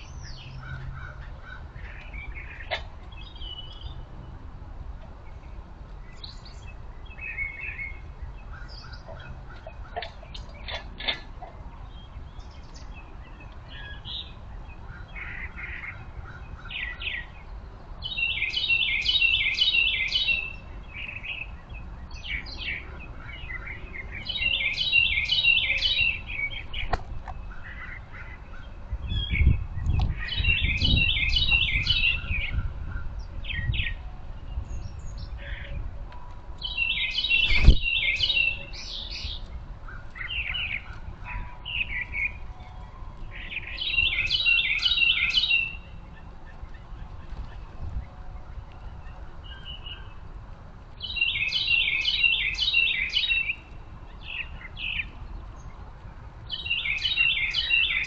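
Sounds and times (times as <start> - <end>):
songbird trilled song: 0.0 - 1.2, 1.8 - 4.1, 5.2 - 35.8, 36.6 - 50.2, 51.0 - 55.8, 56.5 - 58.0
birds chirping: 0.0 - 58.0.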